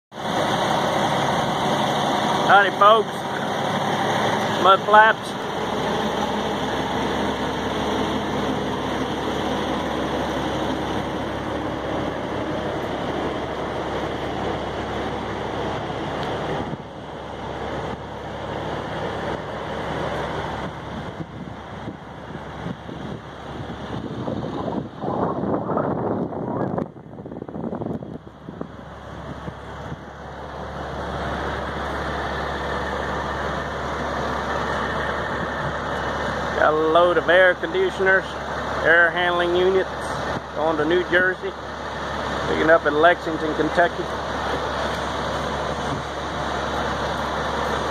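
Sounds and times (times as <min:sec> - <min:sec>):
diesel truck engine idling: 0:00.1 - 0:47.9.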